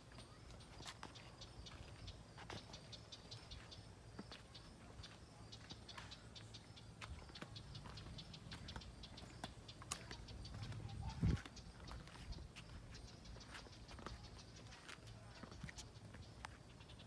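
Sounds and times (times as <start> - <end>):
footsteps on pavement: 0.0 - 17.0.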